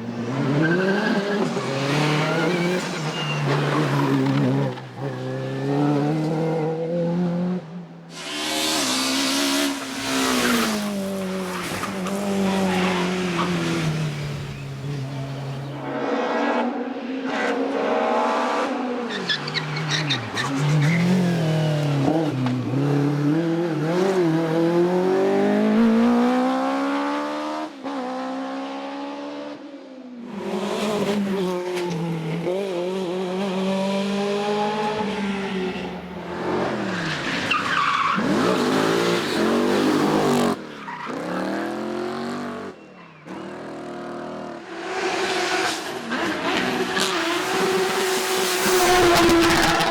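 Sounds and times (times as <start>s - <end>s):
race car engines revving: 0.0s - 29.5s, 30.3s - 49.9s.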